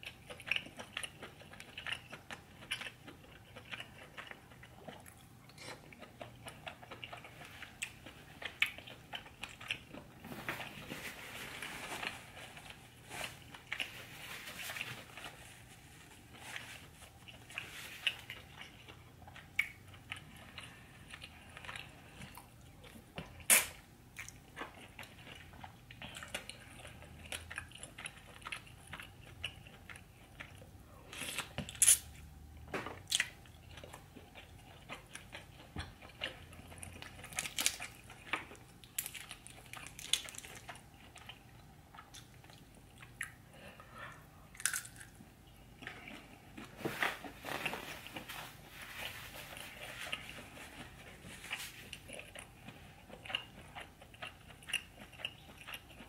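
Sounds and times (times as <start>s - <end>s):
person chewing crunchy food: 0.0s - 32.3s, 32.9s - 56.0s.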